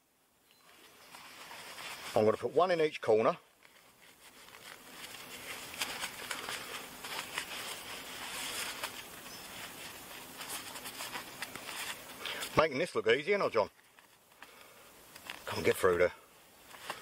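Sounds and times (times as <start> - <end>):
poncho fabric rustling: 0.6 - 17.0.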